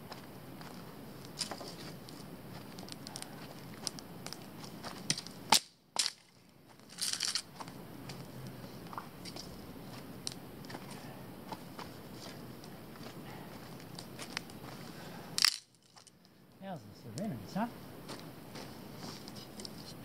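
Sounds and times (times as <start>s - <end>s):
twigs and leaves crunching underfoot: 0.1s - 16.3s
campfire crackling: 0.1s - 19.8s.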